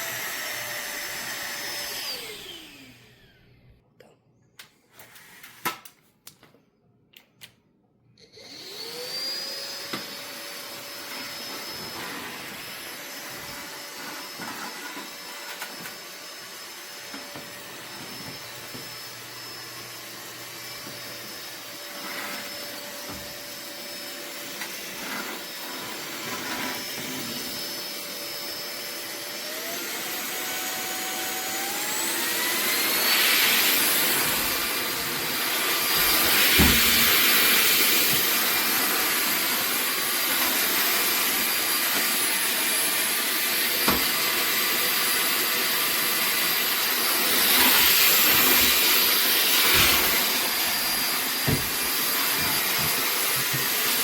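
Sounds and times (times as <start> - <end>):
vacuum motor whine: 0.0 - 3.8, 8.2 - 54.0.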